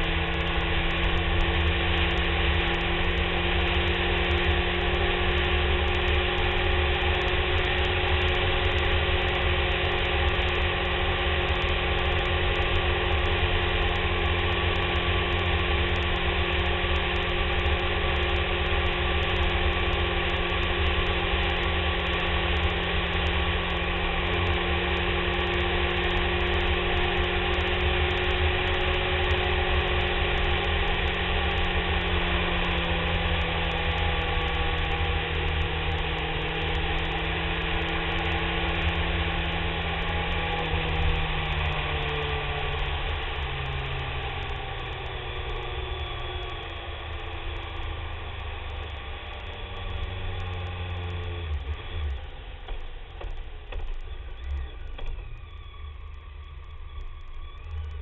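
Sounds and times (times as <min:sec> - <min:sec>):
motorcycle engine cruising: 0:00.0 - 0:58.0
road noise: 0:00.0 - 0:58.0.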